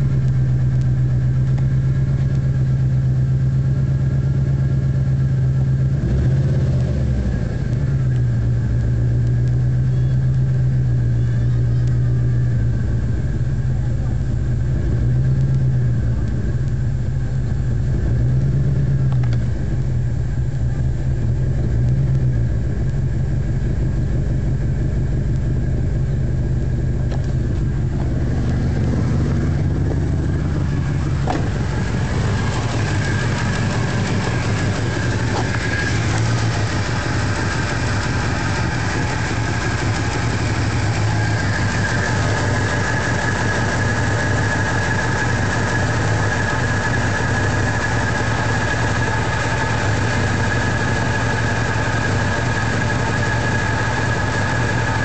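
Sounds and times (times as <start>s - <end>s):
car engine idling unevenly: 0.0s - 55.0s.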